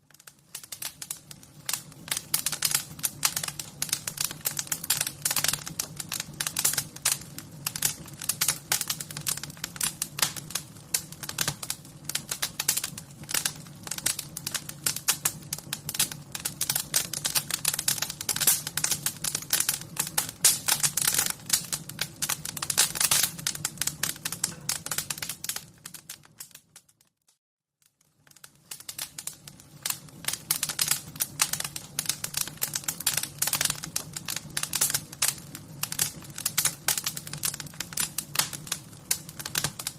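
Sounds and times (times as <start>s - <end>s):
wood fire crackling: 0.0s - 27.2s, 27.8s - 39.9s.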